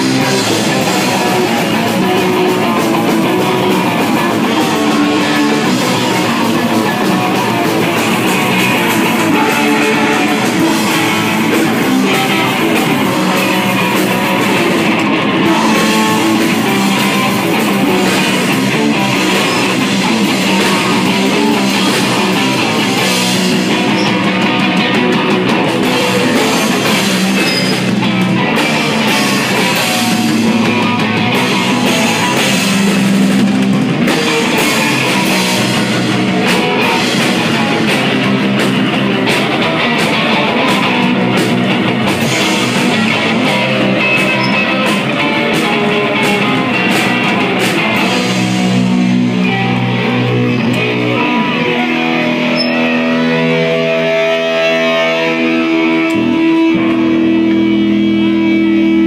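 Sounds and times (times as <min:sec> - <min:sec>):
bass guitar: 0:00.0 - 0:59.0
distorted electric guitar: 0:00.0 - 0:59.0
drum kit with cymbals: 0:00.0 - 0:59.0.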